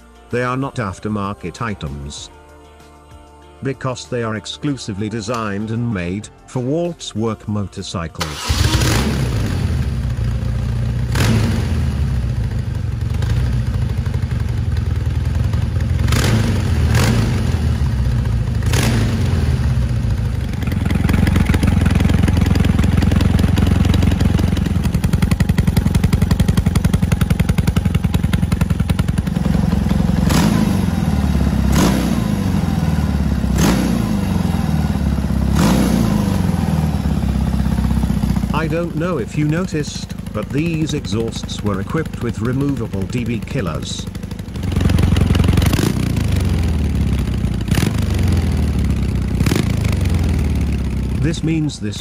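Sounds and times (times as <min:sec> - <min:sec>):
sharp exhaust cracks: 0:08.2 - 0:52.0
motorcycle engine idling and revving: 0:08.3 - 0:52.0.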